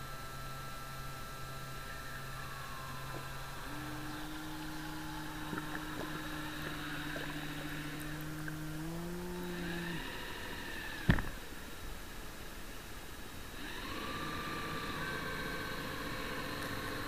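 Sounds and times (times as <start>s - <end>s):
electric motor whining underwater: 0.0s - 11.8s, 13.5s - 17.0s.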